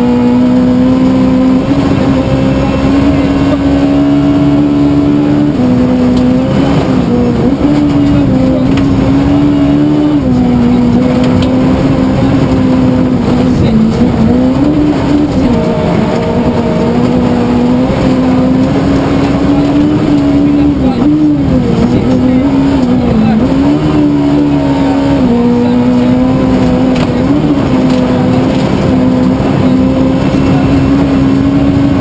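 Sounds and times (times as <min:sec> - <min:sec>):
rally car engine running hard: 0:00.0 - 0:32.0
road and tyre noise: 0:00.0 - 0:32.0.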